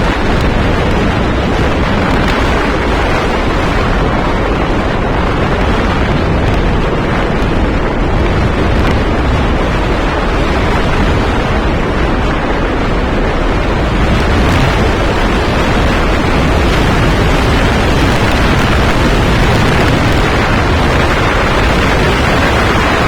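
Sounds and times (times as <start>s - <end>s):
rushing wind: 0.0s - 23.0s
vehicle road noise: 0.0s - 23.0s.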